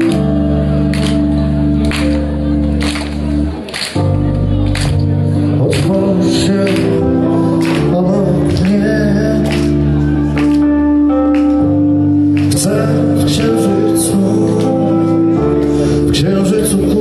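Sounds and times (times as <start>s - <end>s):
bass guitar: 0.0s - 17.0s
electric guitar: 0.0s - 17.0s.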